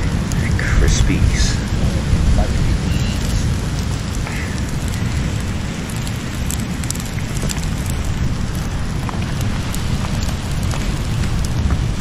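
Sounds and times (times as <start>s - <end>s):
burning wood popping: 0.0s - 12.0s
wind rumbling on microphone: 0.0s - 12.0s
wood fire crackling: 0.0s - 12.0s.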